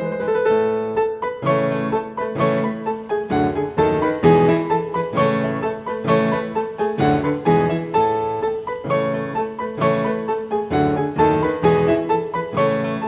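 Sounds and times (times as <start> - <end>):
background piano music: 0.0 - 13.0.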